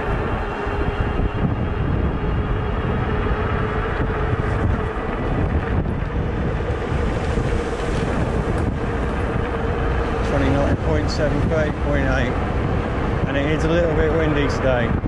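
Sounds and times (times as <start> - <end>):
electric motor hum: 0.0 - 14.7
tyres rolling on pavement: 0.0 - 15.0
wind buffeting microphone: 0.0 - 15.0.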